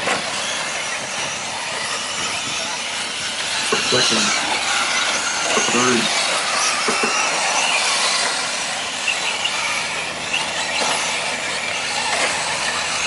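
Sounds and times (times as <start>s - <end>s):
rc truck motor whine: 0.0s - 13.0s.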